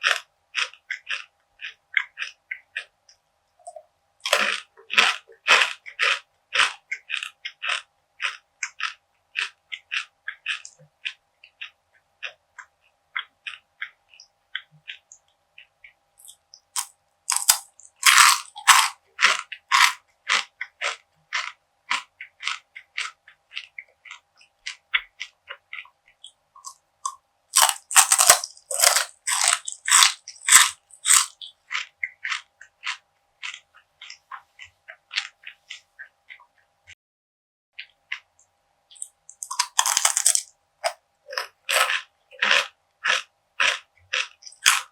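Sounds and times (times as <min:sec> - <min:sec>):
crunchy bites and chewing: 0:00.0 - 0:02.9, 0:04.2 - 0:15.1, 0:16.2 - 0:36.4, 0:38.9 - 0:44.9.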